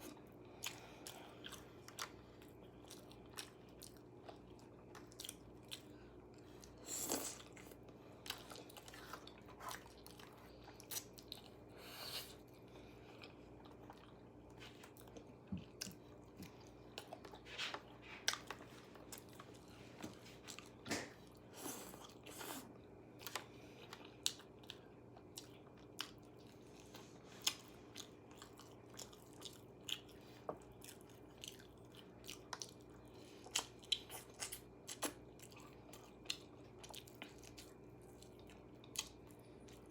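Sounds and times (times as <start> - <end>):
chewing crisp food: 0.0 - 39.9.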